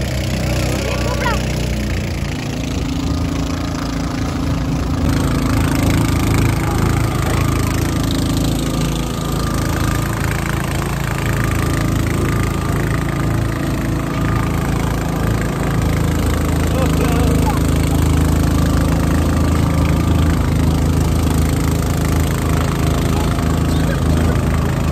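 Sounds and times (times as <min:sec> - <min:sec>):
boat motor running: 0:00.0 - 0:24.9.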